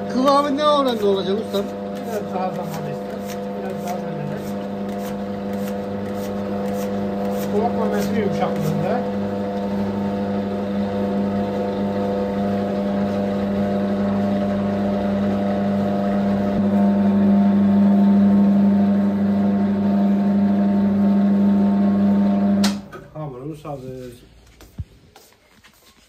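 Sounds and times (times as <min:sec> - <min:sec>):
dough mixer motor humming: 0:00.0 - 0:22.9.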